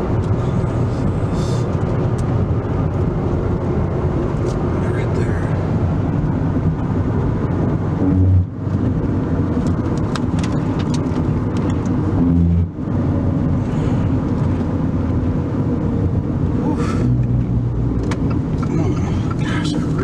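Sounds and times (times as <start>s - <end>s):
road and wind rumble in car: 0.0s - 20.0s.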